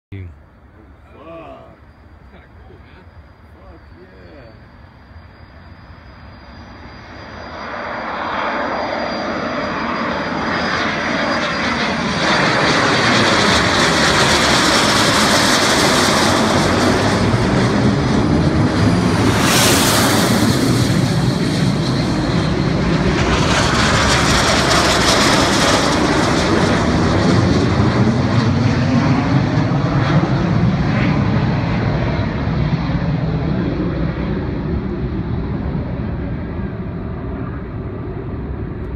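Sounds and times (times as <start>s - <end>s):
jets passing overhead: 0.1s - 38.9s.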